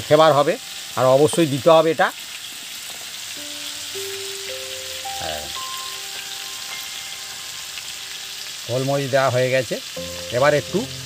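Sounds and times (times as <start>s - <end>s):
soft background music: 0.0s - 2.1s, 3.1s - 11.0s
chicken sizzling in oil: 0.0s - 11.0s.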